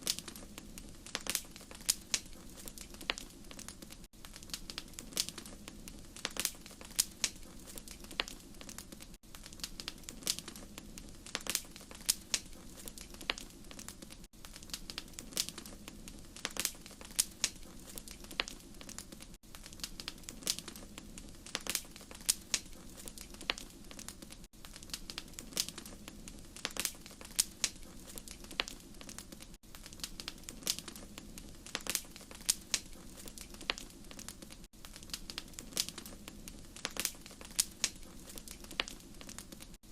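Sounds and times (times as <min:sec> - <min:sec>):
low rumble of flames: 0:00.0 - 0:39.8
wood fire crackling: 0:00.0 - 0:39.9.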